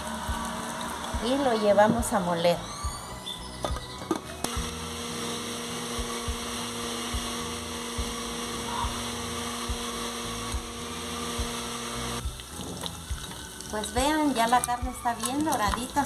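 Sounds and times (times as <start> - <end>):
blender motor grinding: 0.0 - 13.5.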